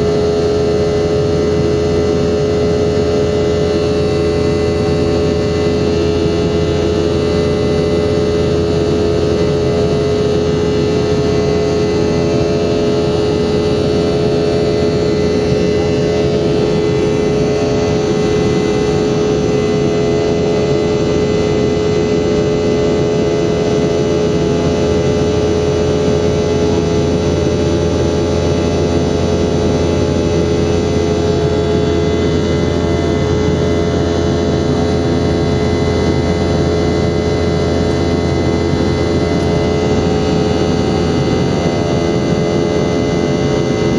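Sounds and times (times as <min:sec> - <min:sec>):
jet engines droning: 0:00.0 - 0:43.9.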